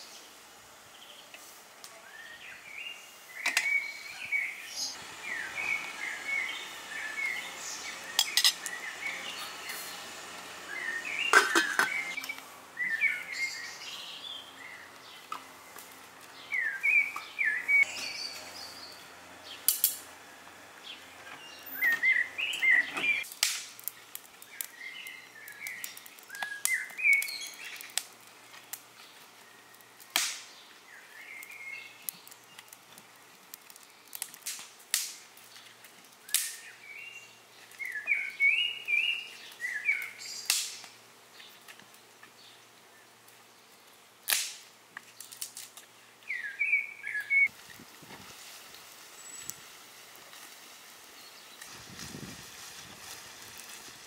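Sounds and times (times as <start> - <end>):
small birds chirping: 0.0 - 19.8, 20.7 - 34.4, 35.4 - 44.0, 45.0 - 47.6, 48.5 - 49.8, 51.0 - 53.2.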